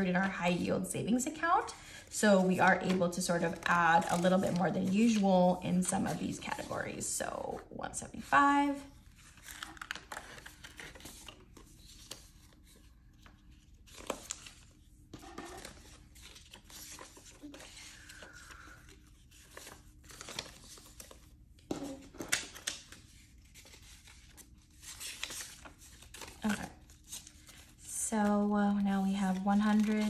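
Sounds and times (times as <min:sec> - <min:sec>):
paper banknotes rustling: 0:02.2 - 0:07.0, 0:08.2 - 0:30.0.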